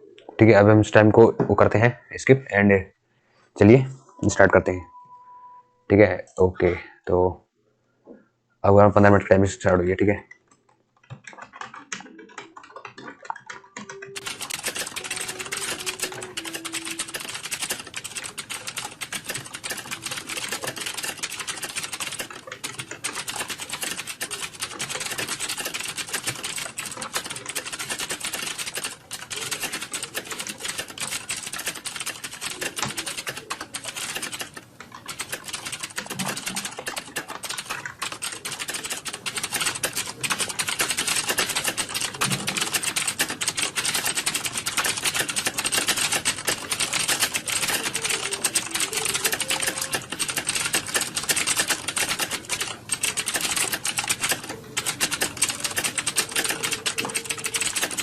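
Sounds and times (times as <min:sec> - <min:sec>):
typing on computer keyboard: 0:10.3 - 0:58.0.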